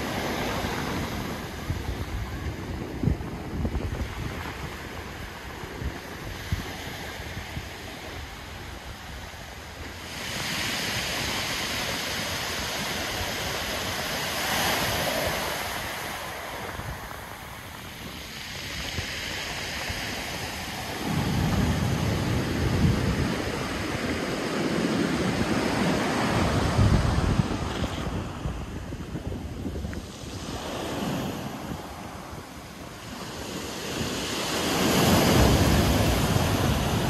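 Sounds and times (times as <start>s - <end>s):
surf washing up pebble beach: 0.0s - 37.0s
wind buffeting microphone: 0.0s - 37.0s.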